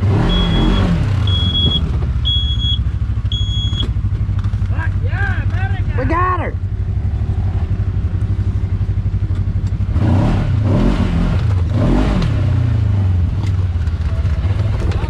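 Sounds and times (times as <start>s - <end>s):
utility vehicle engine revving: 0.0s - 15.0s.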